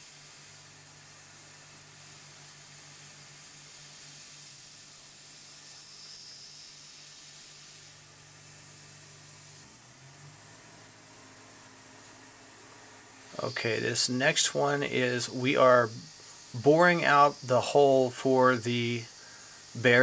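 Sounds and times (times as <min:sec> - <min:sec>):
milling machine hissing and humming: 0:00.0 - 0:20.0.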